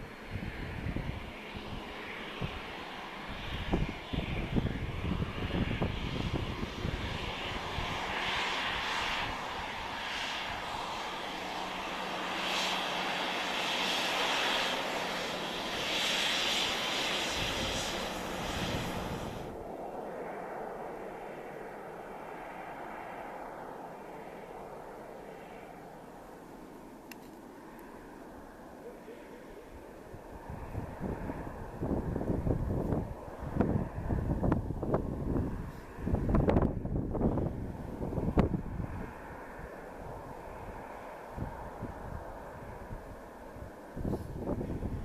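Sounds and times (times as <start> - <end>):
airliner engines running: 0.0 - 45.0.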